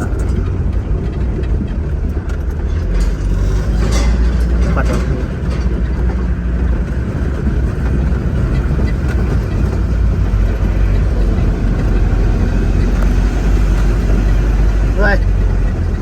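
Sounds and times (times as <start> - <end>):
heavy engine rumbling: 0.0 - 16.0.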